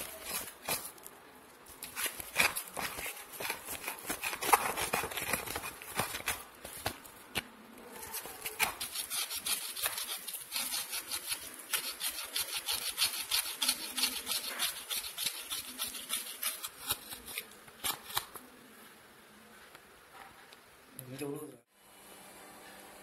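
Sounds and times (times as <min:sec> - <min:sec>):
grated coconut crackling on newspaper: 0:00.0 - 0:18.5.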